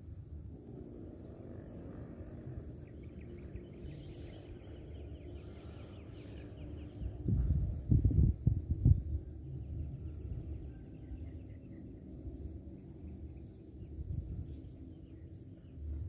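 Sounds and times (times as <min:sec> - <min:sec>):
low rumbling background: 0:00.0 - 0:16.0.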